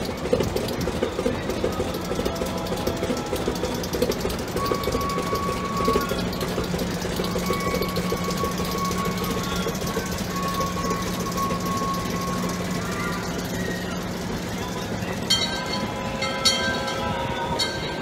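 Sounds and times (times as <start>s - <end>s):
locomotive engine running: 0.0s - 18.0s
rapid clatter on track: 0.0s - 18.0s
thin whine: 0.0s - 18.0s.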